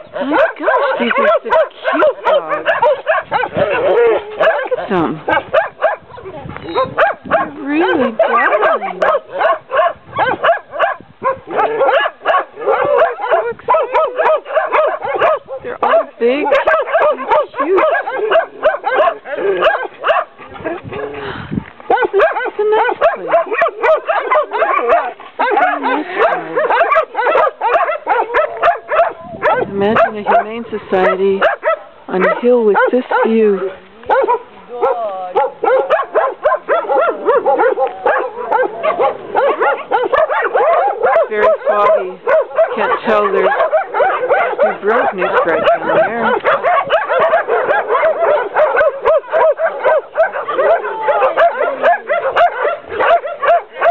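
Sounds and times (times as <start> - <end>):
dogs barking: 0.0 - 21.2, 21.9 - 53.9.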